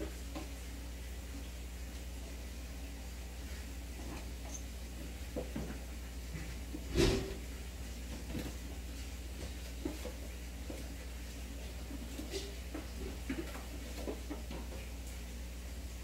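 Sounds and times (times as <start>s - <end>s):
aquarium equipment hum: 0.0s - 16.0s.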